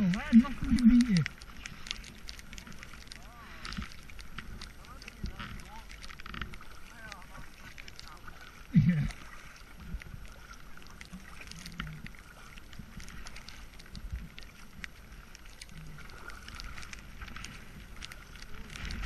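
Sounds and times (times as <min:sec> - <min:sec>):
paddle splashing: 0:00.0 - 0:19.0
water background: 0:00.0 - 0:19.0
water dripping: 0:00.0 - 0:19.0.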